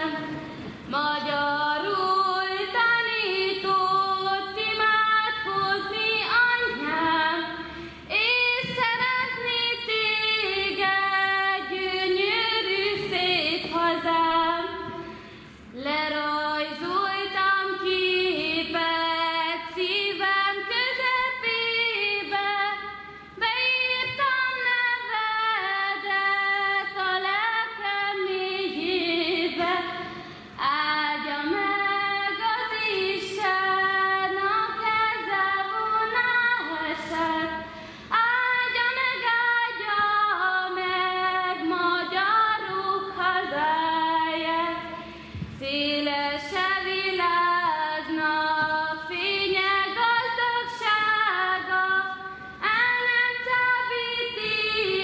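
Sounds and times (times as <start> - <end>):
woman singing unaccompanied: 0.0 - 55.0.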